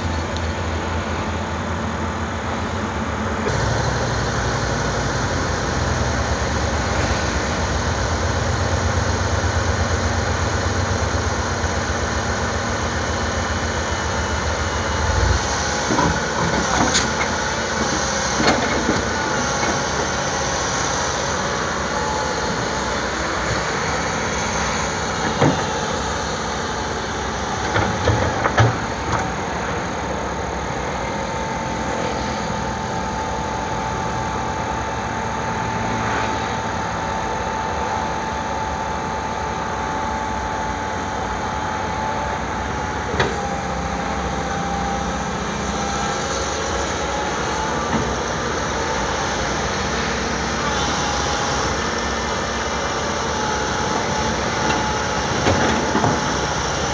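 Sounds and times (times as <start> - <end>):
excavator engine running: 0.0 - 56.9.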